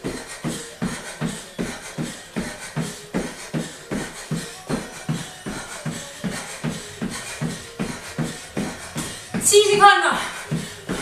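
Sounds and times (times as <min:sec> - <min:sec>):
music with fast steady beat: 0:00.0 - 0:11.0.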